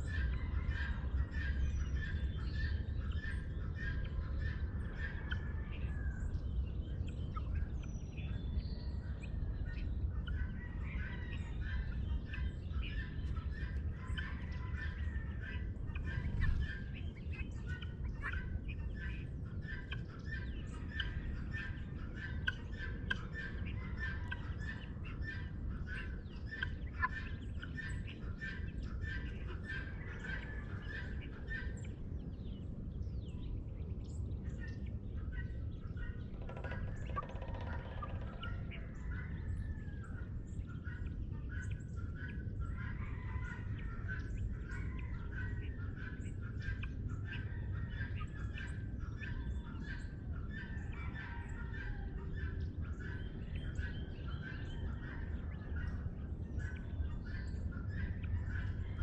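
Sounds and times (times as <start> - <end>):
birds chirping and trilling: 0.0 - 59.0
steady low rumble: 0.0 - 59.0.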